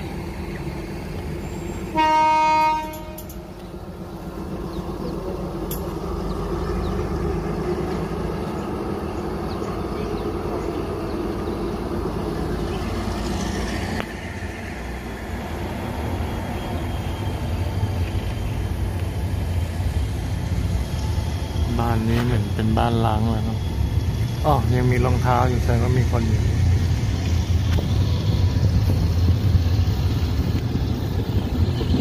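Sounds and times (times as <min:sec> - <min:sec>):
diesel train engine rumble: 0:00.0 - 0:32.0.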